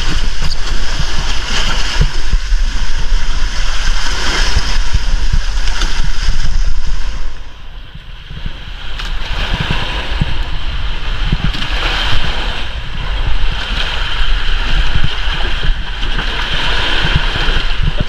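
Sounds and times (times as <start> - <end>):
water lapping against rock: 0.0 - 18.0
wind buffeting microphone: 0.0 - 18.0.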